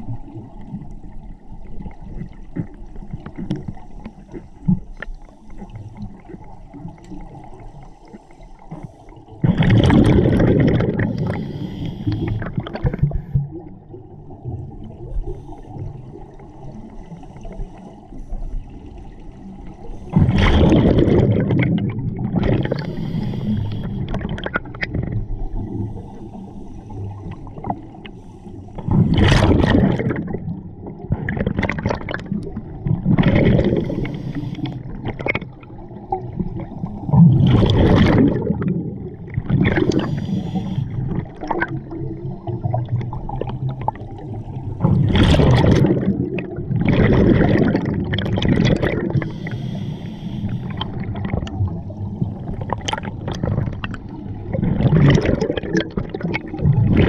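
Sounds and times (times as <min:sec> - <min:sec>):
underwater bubbles gurgling: 0:00.0 - 0:57.0
underwater rumble: 0:00.0 - 0:57.0.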